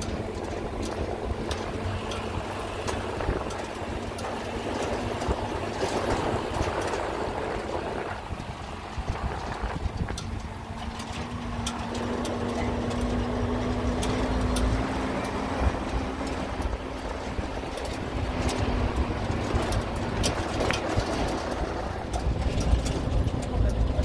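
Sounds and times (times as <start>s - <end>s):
steady motor hum: 0.0s - 24.0s.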